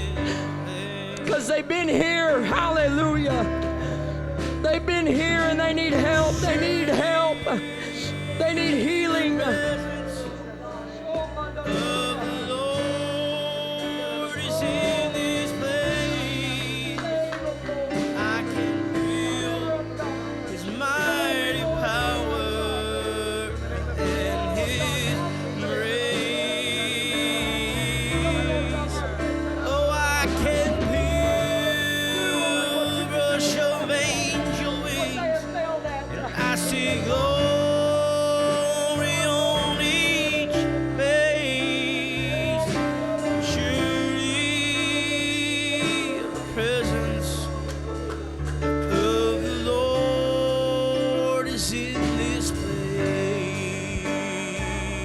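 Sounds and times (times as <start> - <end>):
gospel singing: 0.0 - 55.0
sustained chords and bass: 0.0 - 55.0.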